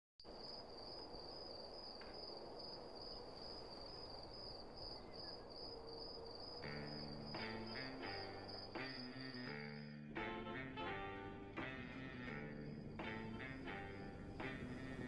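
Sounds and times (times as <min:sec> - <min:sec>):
crickets chirping: 0:00.2 - 0:15.0.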